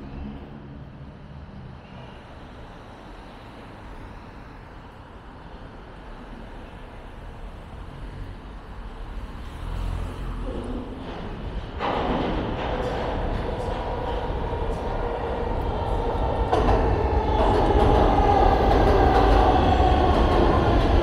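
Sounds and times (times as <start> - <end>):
street traffic noise: 0.0 - 21.0.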